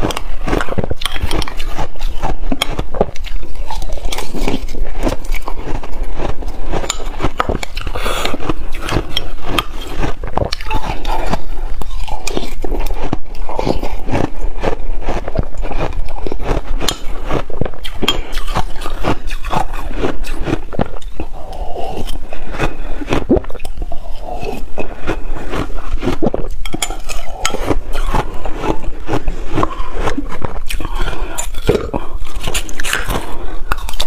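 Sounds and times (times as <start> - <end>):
crunching and chewing ice: 0.0 - 34.0.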